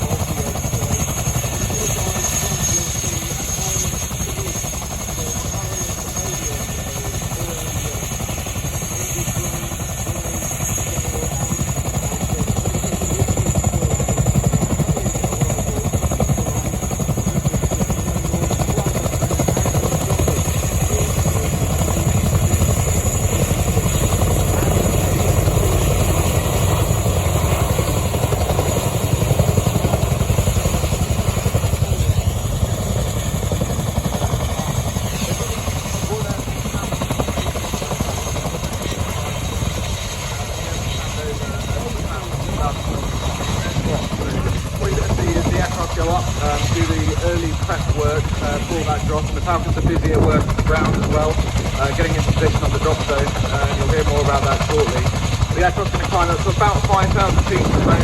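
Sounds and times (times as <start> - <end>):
helicopter rotors thudding: 0.0 - 58.0.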